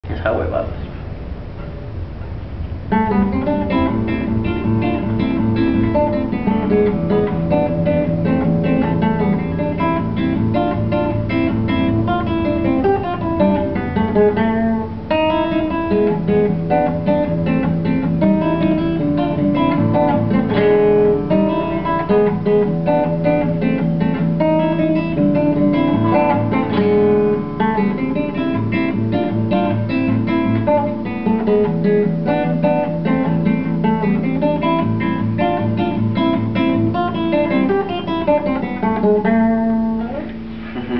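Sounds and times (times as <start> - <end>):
strummed guitar chords: 1.5 - 40.9
fingerstyle classical guitar: 1.6 - 40.9.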